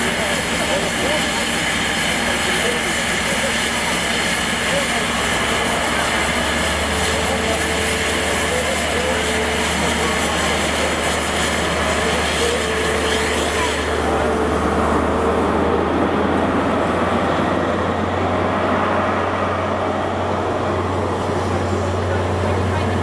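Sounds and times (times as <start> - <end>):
diesel train engine humming: 0.0 - 23.0
train coaches rolling by: 0.0 - 23.0.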